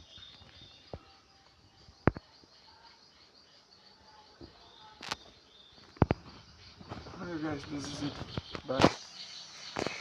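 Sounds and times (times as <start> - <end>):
faint birdsong: 0.0 - 10.0
insects chirping: 0.0 - 10.0.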